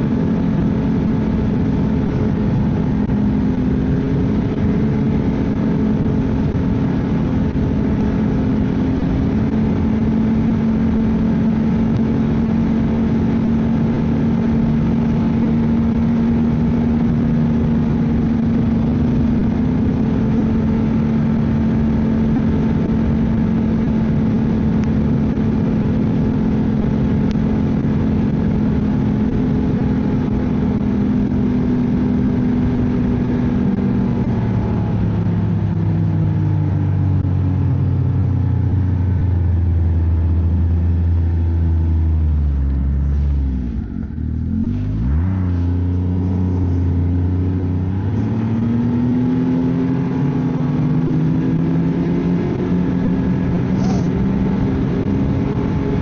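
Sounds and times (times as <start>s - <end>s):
snowmobile engine droning: 0.0s - 56.0s.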